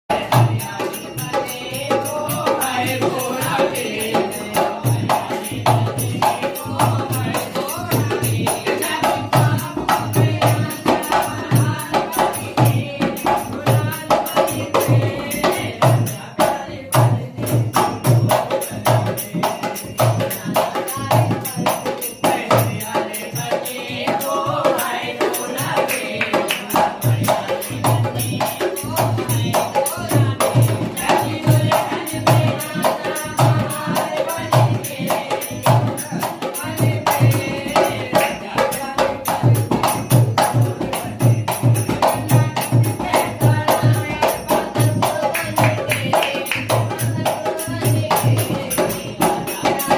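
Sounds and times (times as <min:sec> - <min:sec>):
jingling percussion: 0:00.1 - 0:49.9
steady drum beat: 0:00.1 - 0:49.9.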